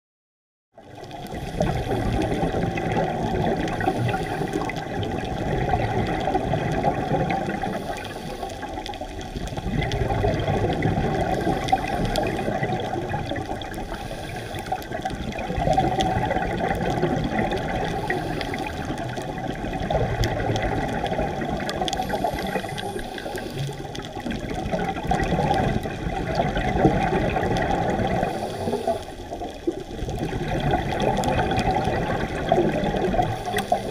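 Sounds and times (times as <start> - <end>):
muffled underwater rush: 0.8 - 33.9
regulator exhale bubbles: 0.9 - 33.9.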